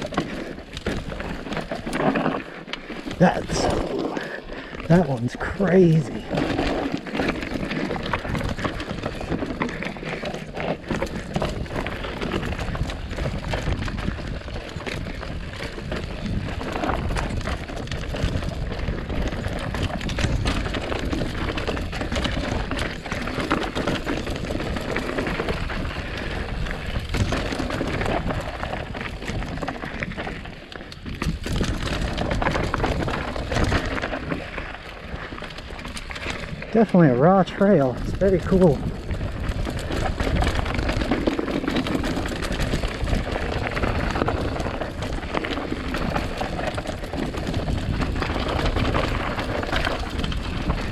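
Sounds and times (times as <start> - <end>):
bike rattling: 0.0 - 50.9
bike tyres crunching on rock: 0.0 - 50.9.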